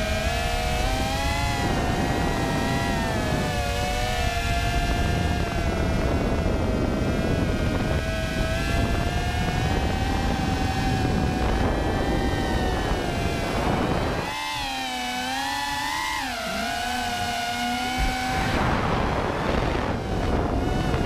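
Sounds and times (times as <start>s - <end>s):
electric motors and propellers whining: 0.0s - 21.0s
wind rush on microphone: 0.0s - 21.0s.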